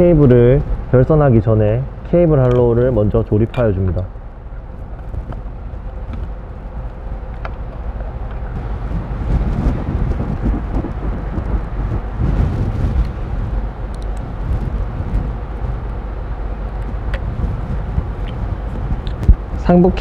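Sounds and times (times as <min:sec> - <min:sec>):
factory room rumble: 0:00.0 - 0:20.0.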